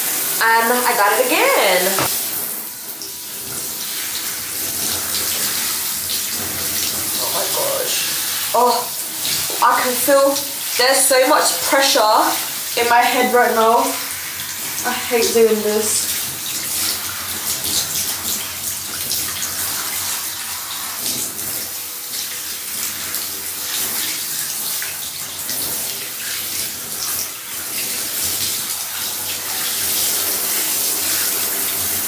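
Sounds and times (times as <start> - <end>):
shower spraying water: 0.0 - 32.0.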